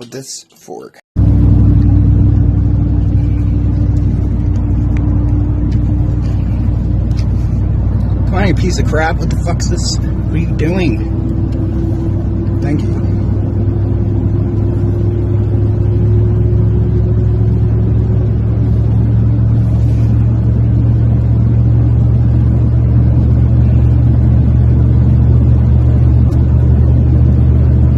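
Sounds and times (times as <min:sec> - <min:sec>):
car engine and road noise: 0:01.2 - 0:27.9.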